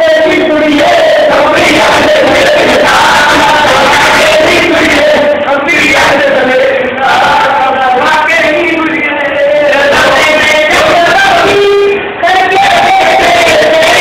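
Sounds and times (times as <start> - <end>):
men singing: 0.0 - 14.0.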